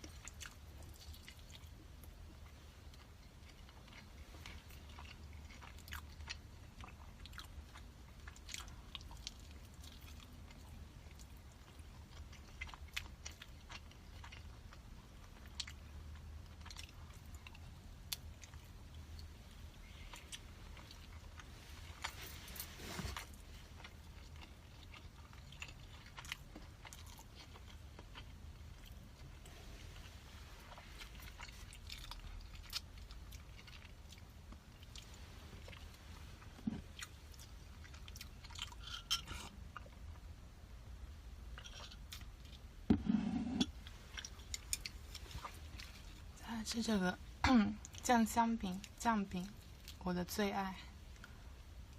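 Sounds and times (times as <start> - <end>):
person chewing sticky rice: 0.0 - 40.3, 41.5 - 46.4.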